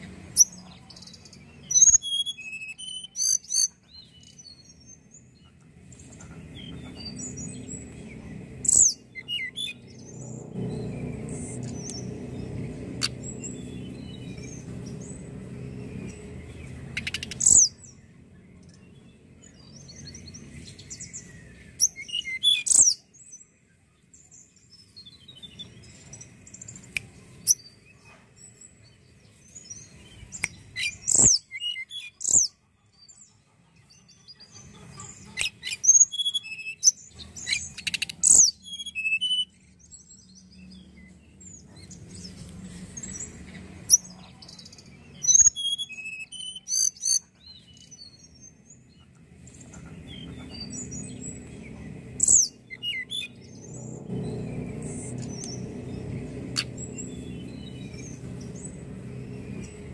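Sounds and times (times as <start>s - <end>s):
bird singing high trills: 0.3s - 5.4s, 6.5s - 28.0s, 29.4s - 32.6s, 35.3s - 49.0s, 50.1s - 59.9s.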